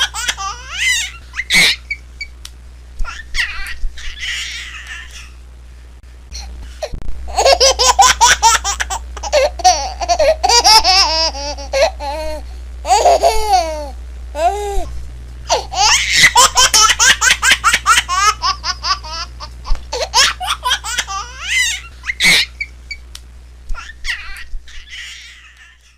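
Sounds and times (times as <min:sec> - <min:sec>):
baby laughing: 0:00.0 - 0:02.0, 0:03.0 - 0:05.4, 0:07.3 - 0:14.9, 0:15.5 - 0:22.7, 0:23.7 - 0:25.9.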